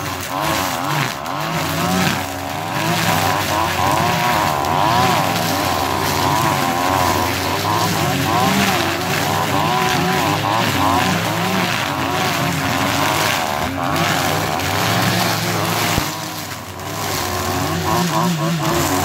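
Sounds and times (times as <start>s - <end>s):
brush cutter engines running: 0.0s - 19.0s.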